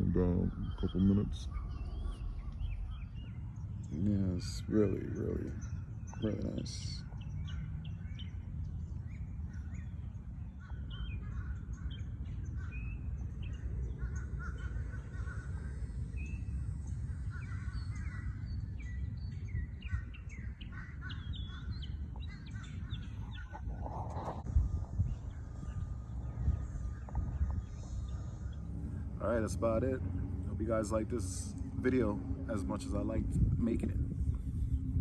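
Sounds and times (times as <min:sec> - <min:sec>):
birds calling and chirping: 0:00.0 - 0:35.0
steady low rumble: 0:00.0 - 0:35.0.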